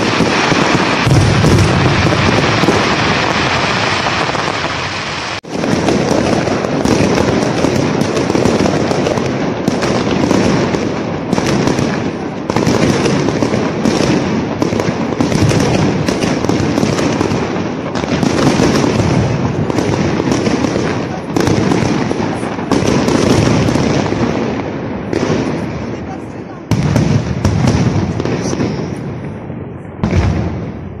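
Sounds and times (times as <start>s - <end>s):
fireworks bangs and crackle: 0.0s - 31.0s.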